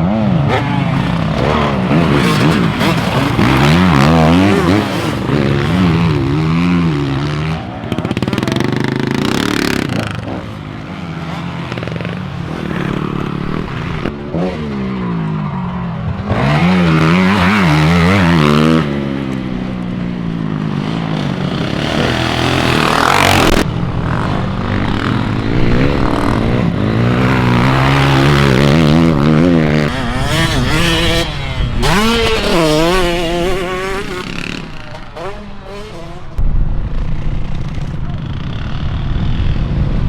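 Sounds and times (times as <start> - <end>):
motocross bike engine revving: 0.0 - 36.4.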